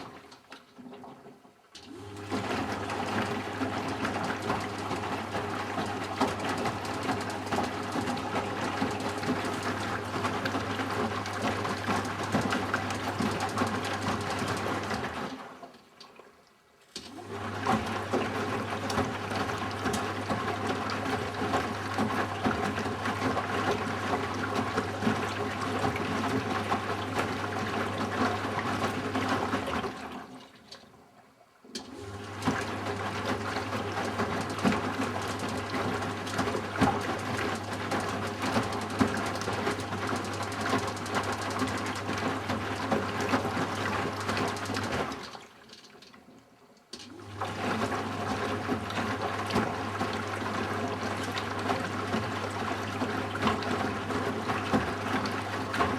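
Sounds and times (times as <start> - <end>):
washing machine drum tumbling laundry: 1.8 - 15.8, 16.9 - 30.9, 31.7 - 46.2, 46.9 - 55.9.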